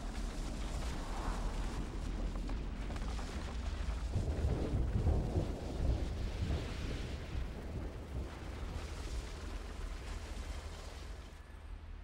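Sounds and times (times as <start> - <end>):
deep volcanic rumbling: 0.0 - 11.5.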